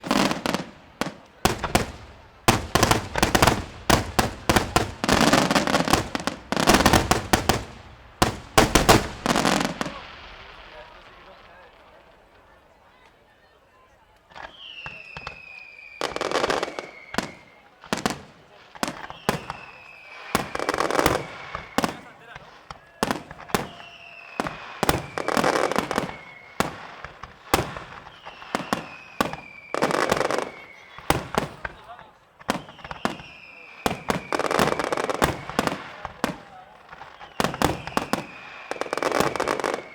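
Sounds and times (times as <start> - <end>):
fireworks exploding: 0.0 - 39.9.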